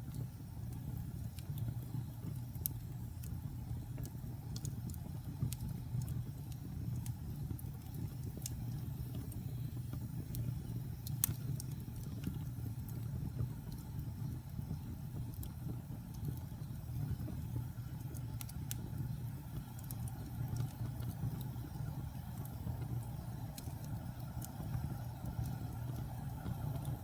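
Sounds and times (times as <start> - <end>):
low rumble of fire: 0.0 - 27.0
sharp pops from fire: 0.0 - 27.0
wood fire crackling: 0.0 - 27.0.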